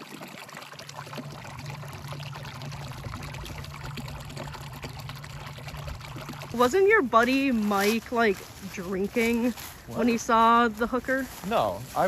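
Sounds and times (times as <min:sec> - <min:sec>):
stream babbling over rocks: 0:00.0 - 0:12.0.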